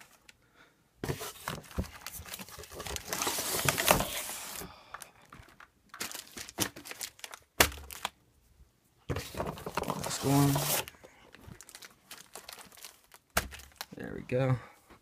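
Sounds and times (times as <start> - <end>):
packaging rustling: 1.0 - 8.2, 9.1 - 14.0.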